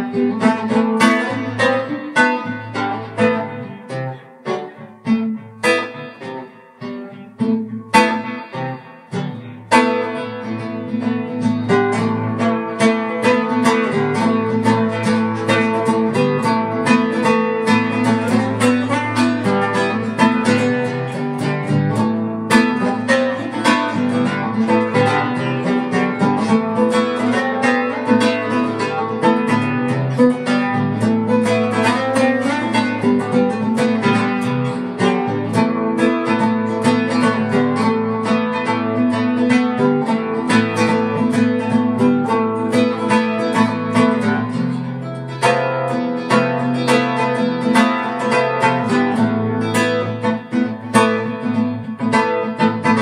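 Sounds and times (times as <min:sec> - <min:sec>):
acoustic guitar playing: 0:00.0 - 0:53.0.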